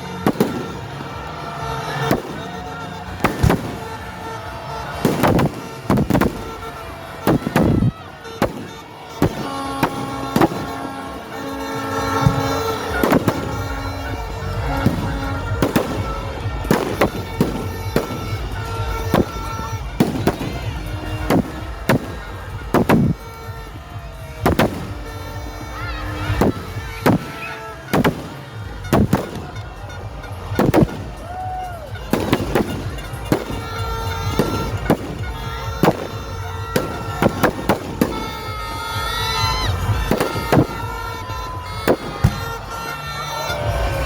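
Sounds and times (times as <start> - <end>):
background music: 0.0 - 44.0
aerial fireworks bangs: 0.1 - 44.0.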